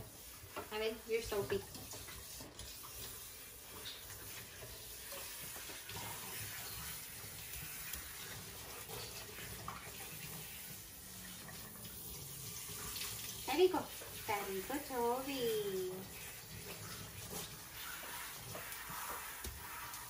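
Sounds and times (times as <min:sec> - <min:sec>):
water spraying into sink: 0:00.0 - 0:20.0.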